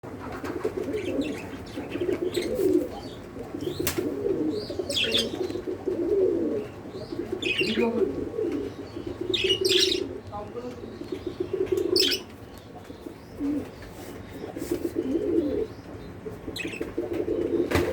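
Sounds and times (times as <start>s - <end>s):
pigeons cooing: 0.1s - 17.9s
small birds chirping: 0.4s - 17.9s.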